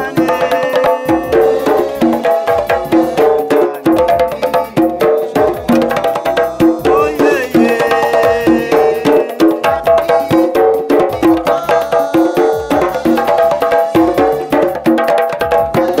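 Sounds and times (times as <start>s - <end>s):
hand drums playing fast rhythm: 0.0s - 16.0s.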